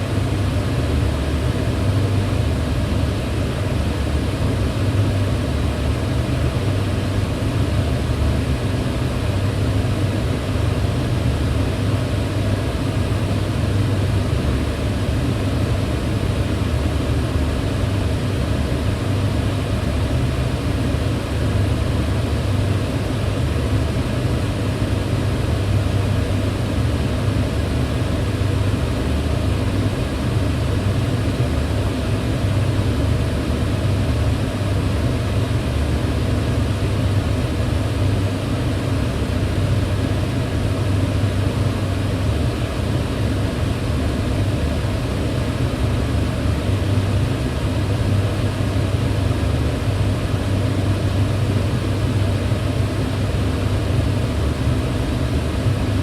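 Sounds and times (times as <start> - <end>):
range hood fan running: 0.0 - 56.0.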